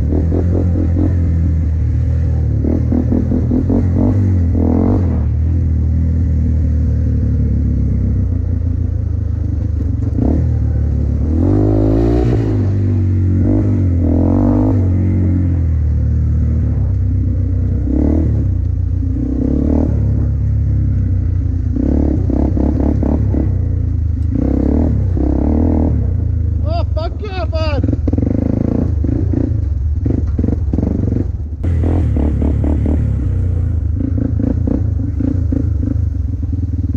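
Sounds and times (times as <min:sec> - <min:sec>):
off-road vehicle engine revving: 0:00.0 - 0:36.9.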